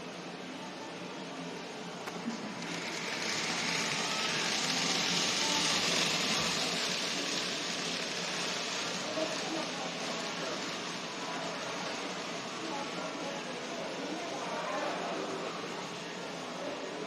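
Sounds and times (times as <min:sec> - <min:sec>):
model train motor whirring: 0:02.1 - 0:16.6.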